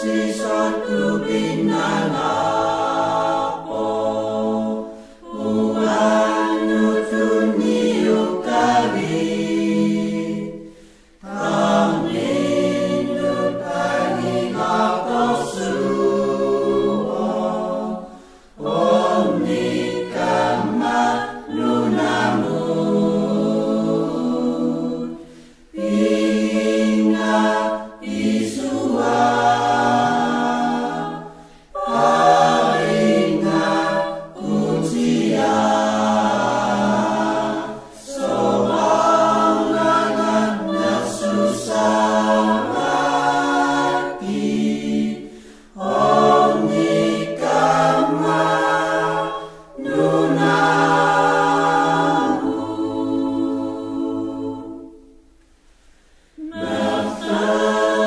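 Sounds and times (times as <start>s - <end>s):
choir singing a hymn: 0.0s - 55.4s, 56.3s - 58.0s.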